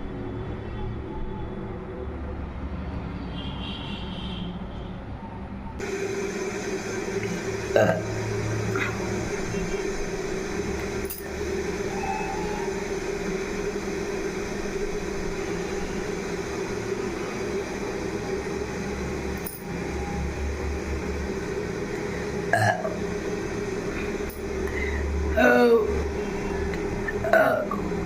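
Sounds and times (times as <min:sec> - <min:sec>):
steady background hum: 0:00.0 - 0:04.8, 0:05.5 - 0:28.0.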